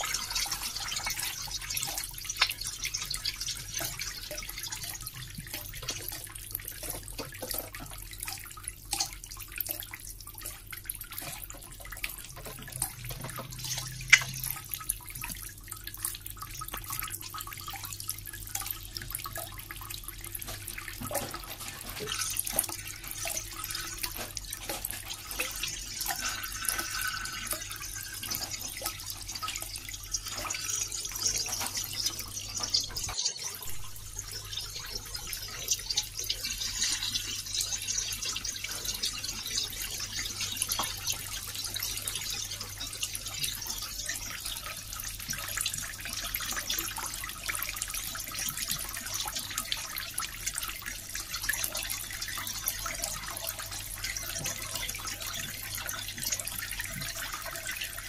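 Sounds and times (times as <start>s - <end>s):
running water splashing: 0.0s - 58.0s
water drips and plinks: 0.0s - 58.0s.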